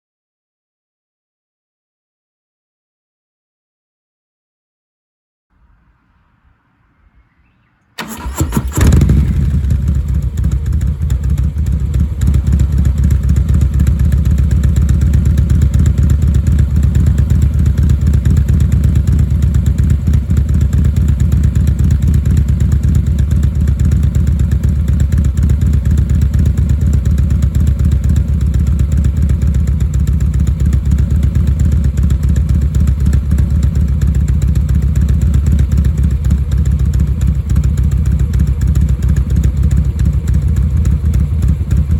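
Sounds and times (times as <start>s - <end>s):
motorcycle engine idling: 7.0s - 41.9s.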